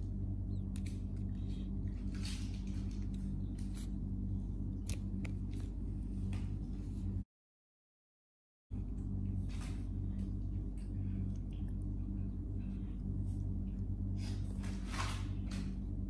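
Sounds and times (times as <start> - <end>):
steady low hum: 0.0 - 7.3, 8.7 - 16.0.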